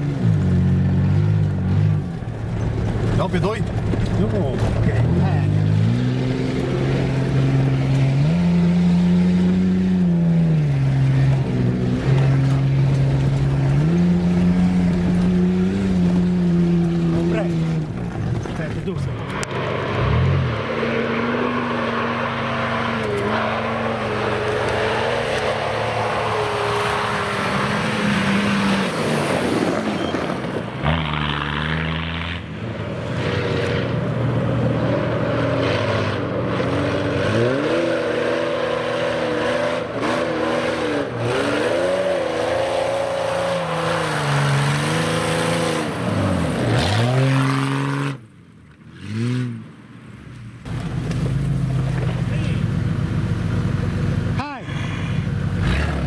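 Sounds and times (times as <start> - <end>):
off-road vehicle engine revving: 0.0 - 48.3, 48.9 - 49.8, 50.6 - 56.0.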